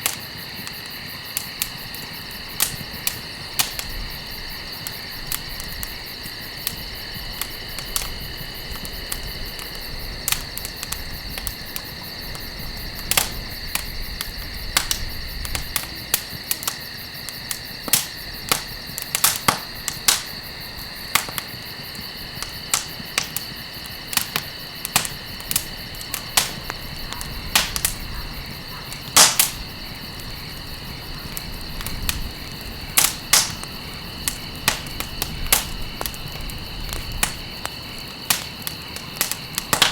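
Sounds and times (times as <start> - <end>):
campfire crackling and popping: 0.0 - 39.9
high insect trill: 0.0 - 39.9.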